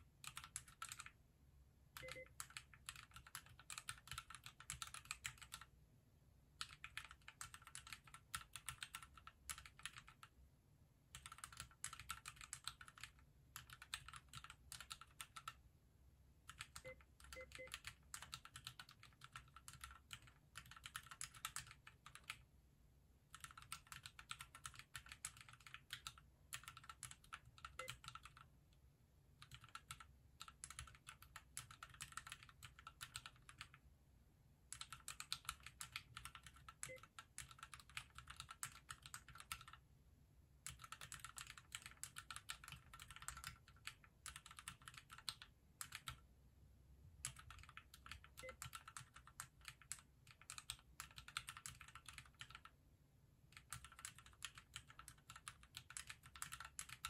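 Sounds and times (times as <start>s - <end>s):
mechanical keyboard typing: 0.2s - 1.2s, 2.0s - 5.7s, 6.6s - 10.3s, 11.1s - 15.6s, 16.4s - 22.4s, 23.3s - 28.5s, 29.4s - 33.8s, 34.7s - 39.8s, 40.6s - 46.2s, 47.2s - 52.8s, 53.5s - 57.0s.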